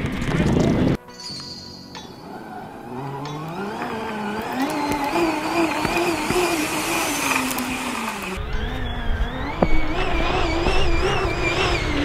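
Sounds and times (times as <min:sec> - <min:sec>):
wind and track noise: 0:00.0 - 0:01.0, 0:02.0 - 0:12.0
electric snowmobile drive whine: 0:01.8 - 0:12.0.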